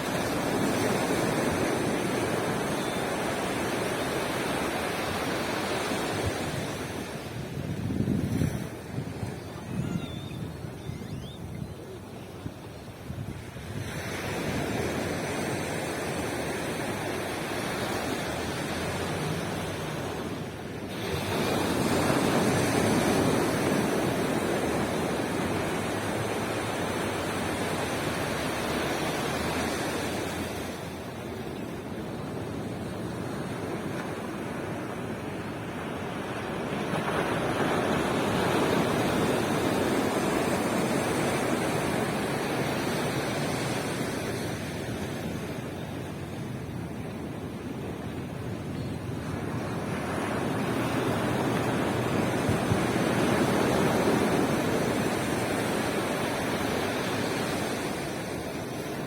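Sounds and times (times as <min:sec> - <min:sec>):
ocean surf washing onto beach: 0:00.0 - 0:10.8, 0:11.9 - 0:59.0.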